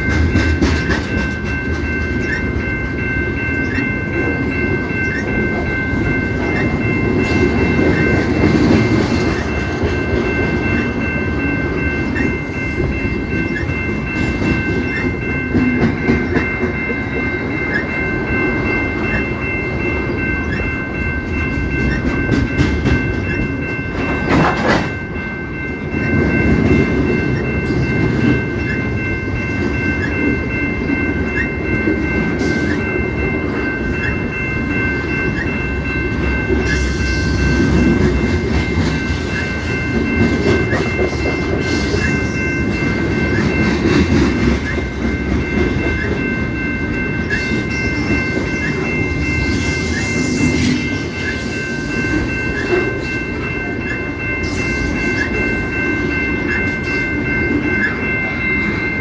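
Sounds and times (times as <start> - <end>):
steady high ringing tone: 0.0 - 59.0
train cars rumbling and clattering: 0.0 - 59.0.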